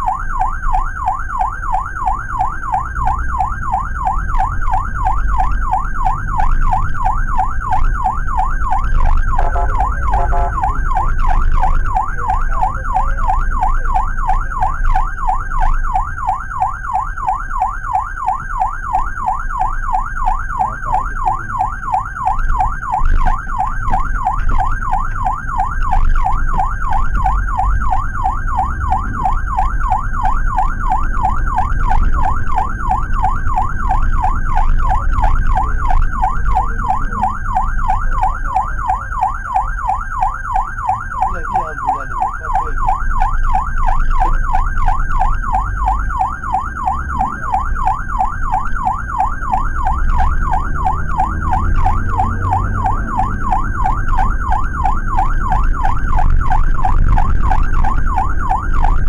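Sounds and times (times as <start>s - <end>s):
ambulance siren yelping: 0.0s - 59.0s
road noise: 0.0s - 59.0s.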